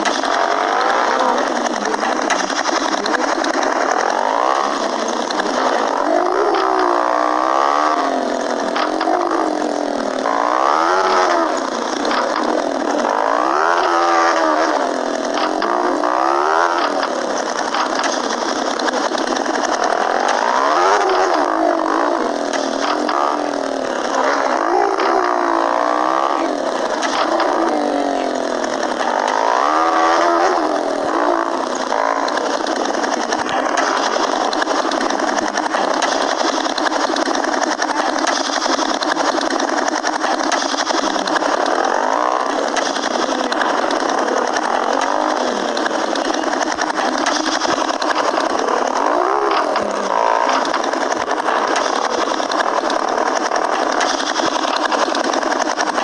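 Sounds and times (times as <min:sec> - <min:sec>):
small motorcycle accelerating: 0:00.0 - 0:56.0.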